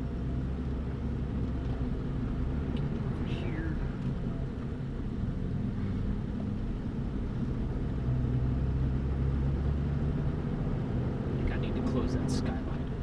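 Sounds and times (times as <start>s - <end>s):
engine and road drone: 0.0s - 13.0s.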